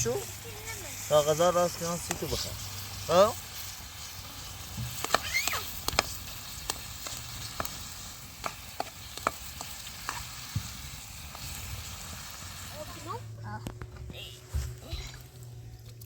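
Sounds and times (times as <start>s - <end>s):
food sizzling in a pan: 0.0s - 13.4s.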